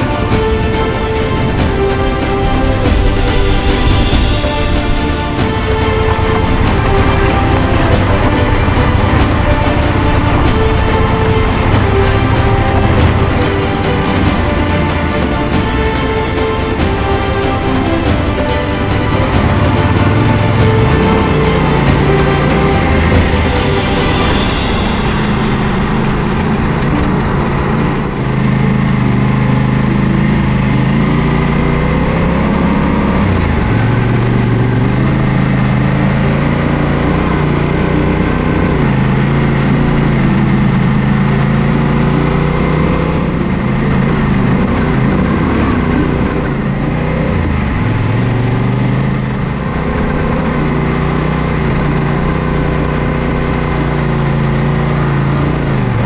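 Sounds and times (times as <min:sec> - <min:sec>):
motorcycle engine revving: 0:00.0 - 0:56.0
steady rushing noise: 0:00.0 - 0:56.0.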